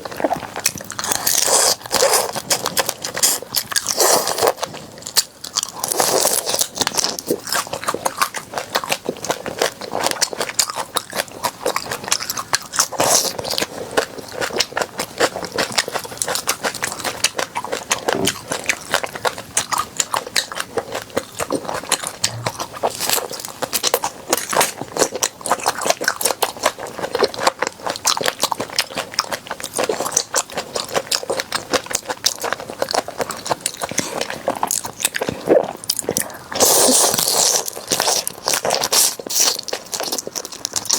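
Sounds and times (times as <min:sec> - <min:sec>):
chewing crunchy food: 0:00.0 - 0:40.9.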